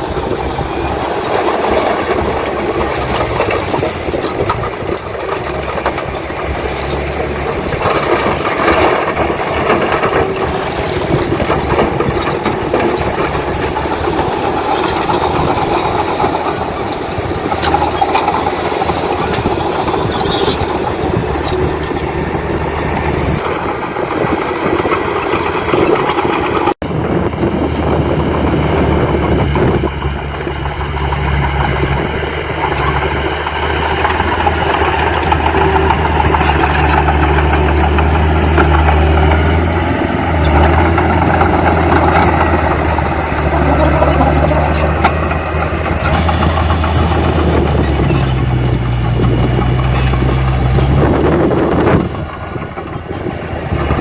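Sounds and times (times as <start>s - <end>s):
diesel machinery engine: 0.0s - 54.0s
machinery clanking: 0.0s - 54.0s.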